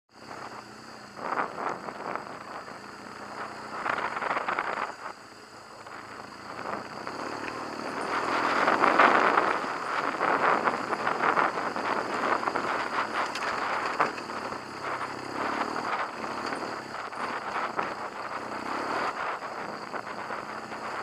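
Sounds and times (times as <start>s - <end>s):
motorcycle engine running: 0.2s - 21.0s
wind buffeting on helmet: 0.2s - 21.0s.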